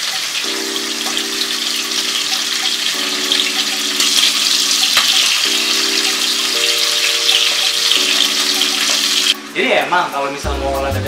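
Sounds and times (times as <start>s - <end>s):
food sizzling in frying pan: 0.0s - 10.4s
soft background music: 0.2s - 11.0s.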